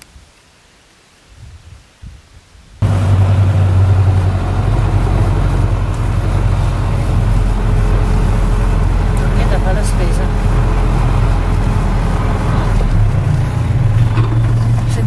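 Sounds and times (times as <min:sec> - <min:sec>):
vehicle engine running: 0:02.8 - 0:15.0.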